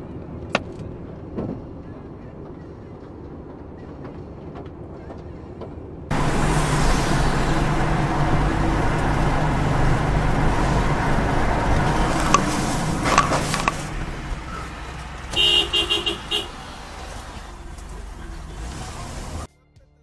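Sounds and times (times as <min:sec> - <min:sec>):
car road and engine noise: 0:00.0 - 0:19.5
traffic with low engine drone: 0:00.0 - 0:19.5.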